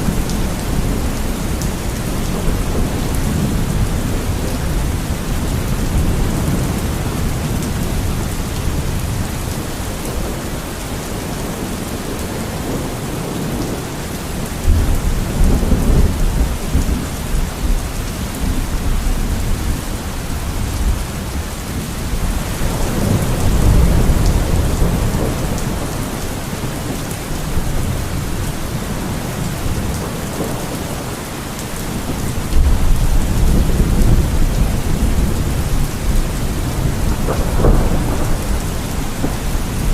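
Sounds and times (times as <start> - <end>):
steady rain: 0.0 - 39.9
thunder rumbles: 0.0 - 39.9.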